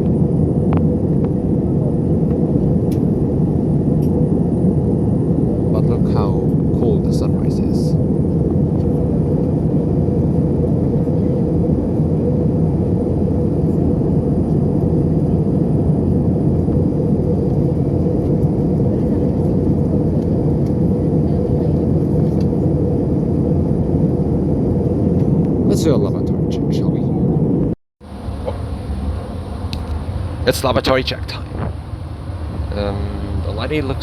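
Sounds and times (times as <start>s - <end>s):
airliner cabin roar: 0.0s - 34.0s.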